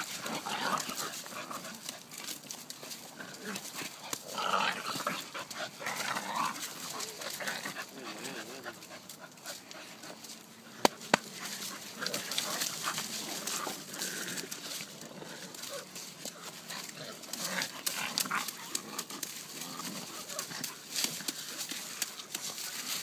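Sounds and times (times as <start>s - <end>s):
scuffling in dry leaves: 0.0s - 23.0s.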